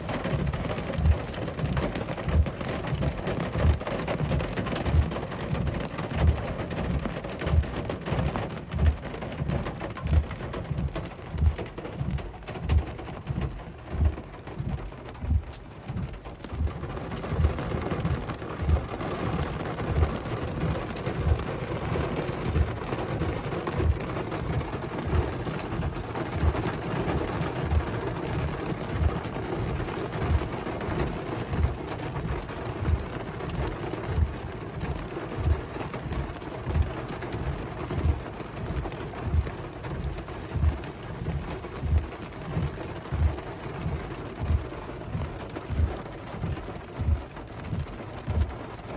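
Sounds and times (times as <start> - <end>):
hail and rain falling: 0.0 - 48.9
low regular thump: 0.0 - 48.9.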